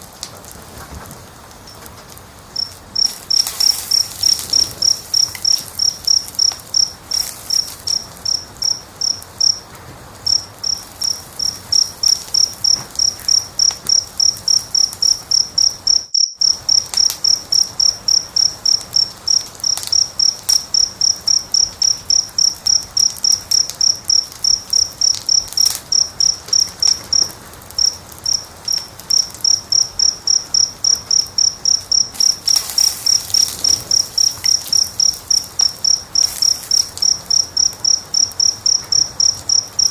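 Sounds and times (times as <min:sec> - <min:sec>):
faint wood fire crackling: 0:00.0 - 0:39.9
cricket chirping: 0:01.0 - 0:39.9.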